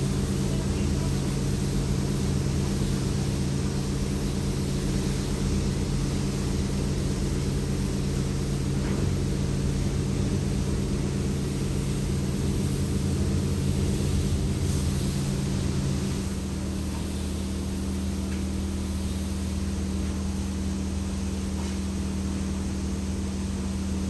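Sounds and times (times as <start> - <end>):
engine droning steadily: 0.0 - 24.0.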